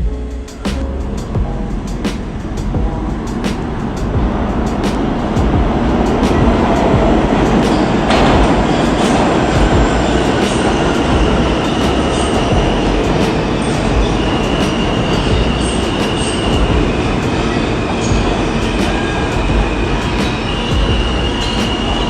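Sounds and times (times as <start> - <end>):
subway train rumble: 0.0 - 22.0
wheel squeal: 1.9 - 22.0.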